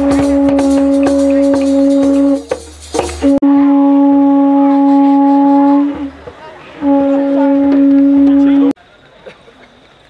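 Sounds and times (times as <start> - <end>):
conch shell blasts: 0.0 - 8.8.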